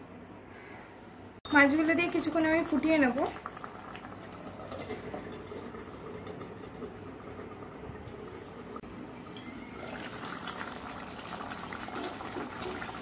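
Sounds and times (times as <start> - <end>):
curry bubbling and sputtering: 1.9 - 13.0.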